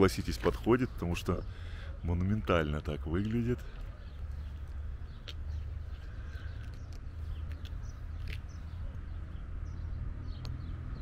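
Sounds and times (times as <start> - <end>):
steady low rumble: 0.0 - 10.7
bird chirps: 0.4 - 11.0.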